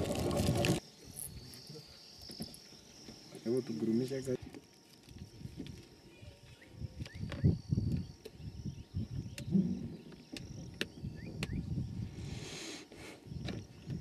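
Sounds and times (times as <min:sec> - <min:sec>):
high insect chirp: 0:00.0 - 0:14.0.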